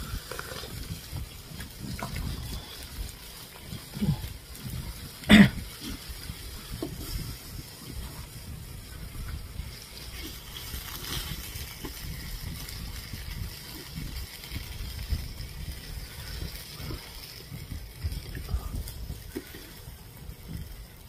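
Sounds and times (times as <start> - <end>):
low rumble: 0.0 - 20.8.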